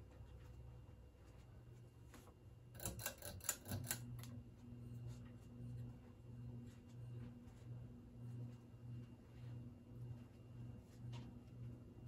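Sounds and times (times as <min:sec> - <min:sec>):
ceiling fan motor humming: 0:00.0 - 0:12.0.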